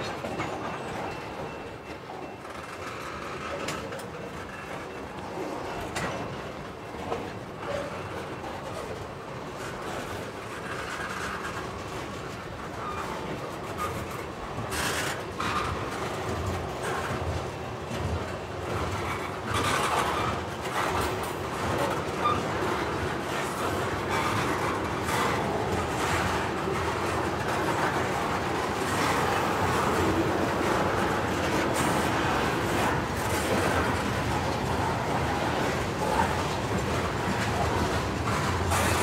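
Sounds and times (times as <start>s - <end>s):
train wheels rumbling: 0.0s - 39.0s
wheels clacking over rail joints: 0.0s - 39.0s.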